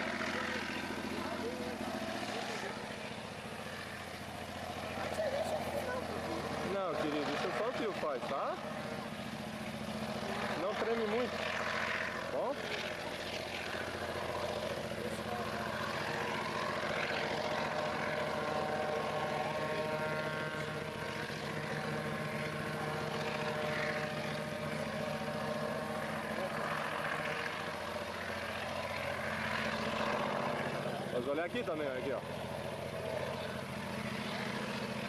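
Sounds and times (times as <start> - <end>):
diesel locomotive engines droning: 0.0 - 35.0.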